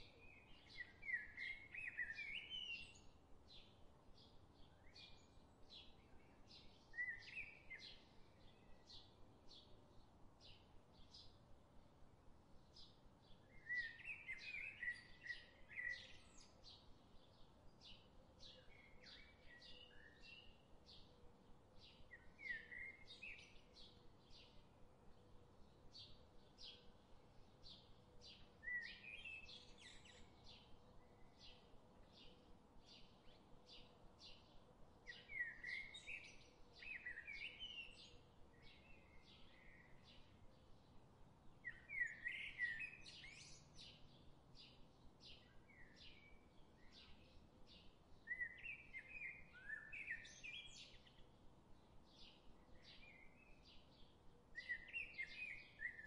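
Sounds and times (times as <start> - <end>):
bird warbling song: 0.0 - 3.1, 4.6 - 9.1, 12.8 - 21.1, 21.9 - 24.6, 27.6 - 40.6, 41.6 - 51.3, 52.1 - 56.0
bird chirping: 0.0 - 11.4, 12.6 - 21.1, 21.8 - 56.0.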